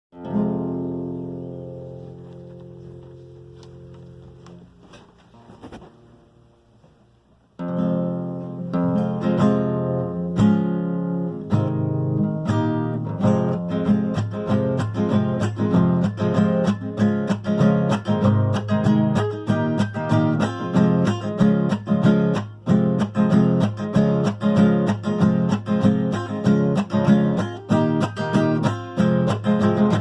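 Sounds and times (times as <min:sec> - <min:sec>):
acoustic guitar strumming: 0:00.1 - 0:06.6, 0:07.6 - 0:30.0.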